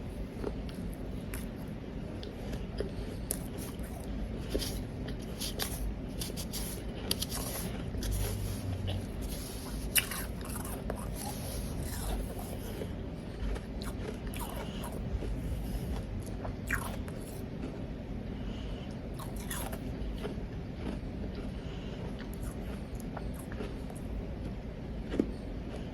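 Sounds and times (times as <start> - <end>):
ice being chewed: 0.1 - 17.9, 19.0 - 25.9.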